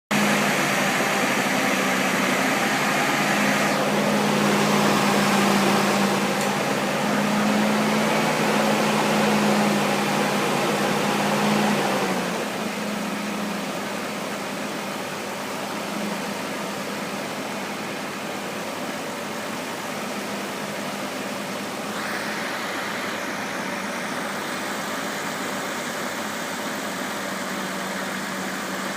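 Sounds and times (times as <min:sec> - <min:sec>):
petrol engine running: 0:00.1 - 0:28.9.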